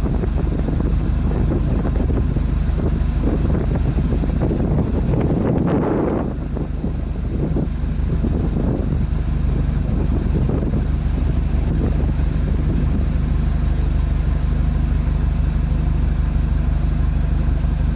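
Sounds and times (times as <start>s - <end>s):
car exhaust idling: 0.0s - 17.9s
wind buffeting microphone: 0.0s - 17.9s.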